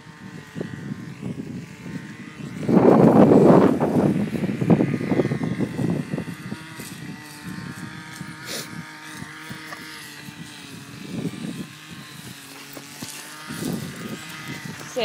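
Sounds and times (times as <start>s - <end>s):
steady engine hum: 0.0s - 15.0s.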